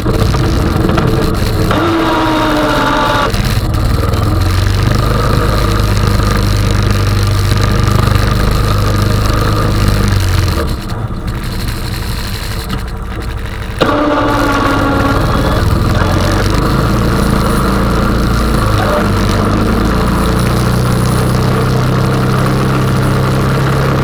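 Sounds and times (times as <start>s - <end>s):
atv engine running under load: 0.0s - 24.0s
high engine whine: 0.0s - 24.0s.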